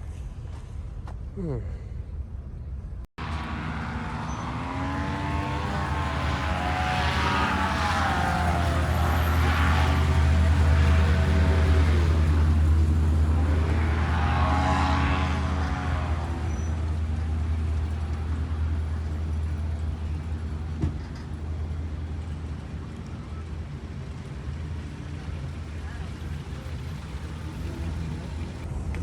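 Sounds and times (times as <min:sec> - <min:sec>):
vehicle engine humming: 0:00.0 - 0:29.0
vehicle passing by: 0:03.2 - 0:28.9.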